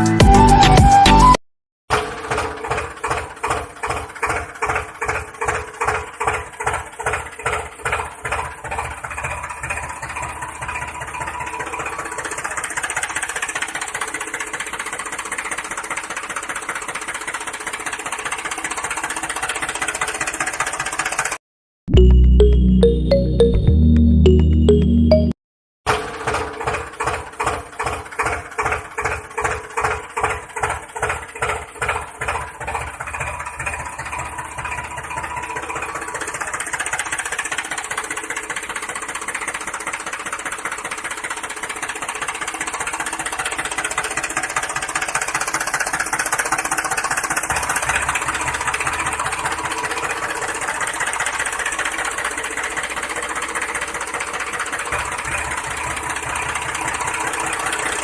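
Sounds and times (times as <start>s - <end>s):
engine running: 1.9s - 25.3s, 26.2s - 58.0s.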